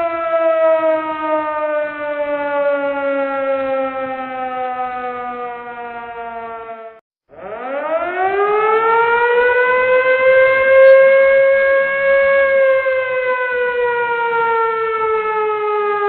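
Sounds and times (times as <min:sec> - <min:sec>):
emergency warning siren wailing: 0:00.0 - 0:16.0.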